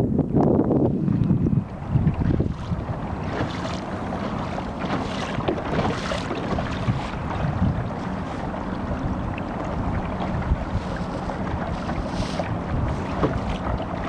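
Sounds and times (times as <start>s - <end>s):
water rushing along kayak hull: 0.0s - 14.0s
wind buffeting microphone: 0.0s - 14.0s.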